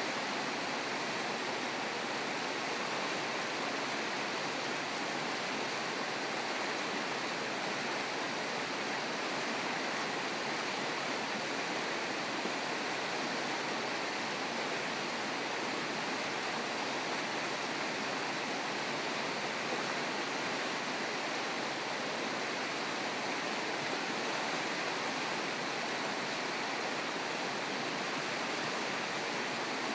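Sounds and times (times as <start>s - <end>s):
river rushing over stones: 0.0s - 29.9s.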